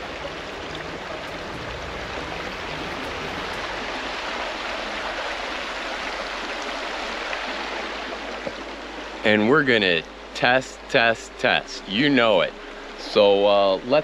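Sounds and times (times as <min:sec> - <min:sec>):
river flowing over stones: 0:00.0 - 0:14.0.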